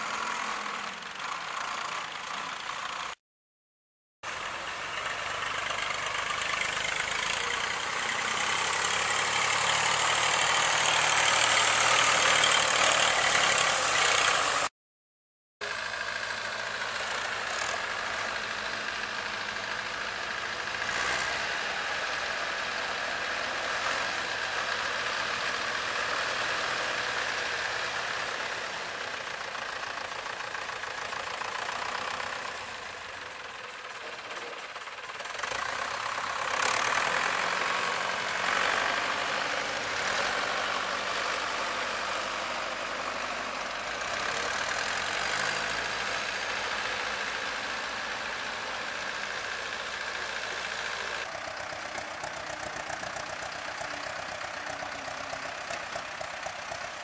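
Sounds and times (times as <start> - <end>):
tractor diesel engines running: 0.0 - 3.2, 4.2 - 14.7, 15.6 - 57.0.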